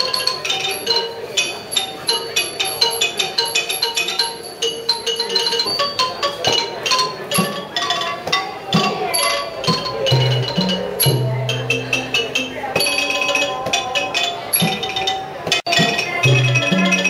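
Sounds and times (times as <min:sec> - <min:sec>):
xylophone fast runs: 0:00.0 - 0:17.0.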